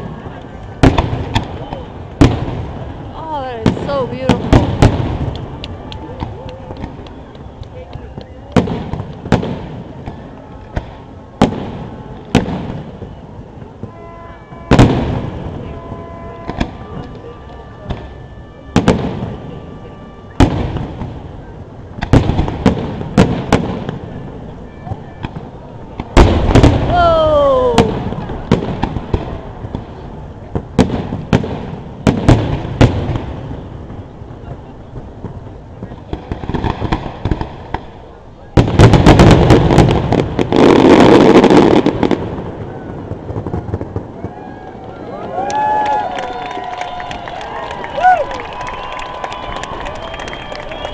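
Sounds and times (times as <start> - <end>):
fireworks bursting: 0.0 - 45.8.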